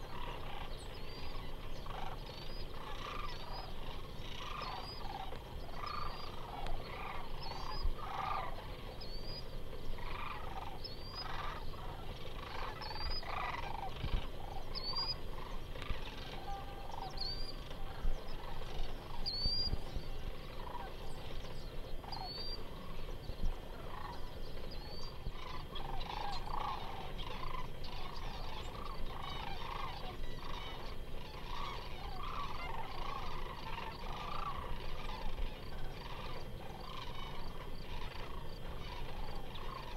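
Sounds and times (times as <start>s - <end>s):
cranes calling: 0.0s - 39.9s.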